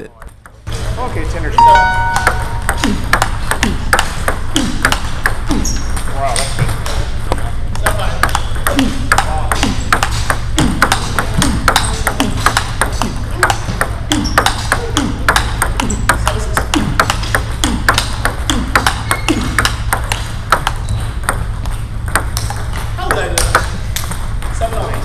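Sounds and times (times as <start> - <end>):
table tennis ball clicks: 1.8 - 6.1, 7.3 - 24.6
distant table tennis clicks: 2.0 - 24.6.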